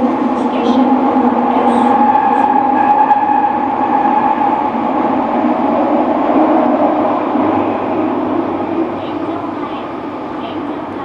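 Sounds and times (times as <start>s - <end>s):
train wheel and track noise: 0.0s - 11.0s.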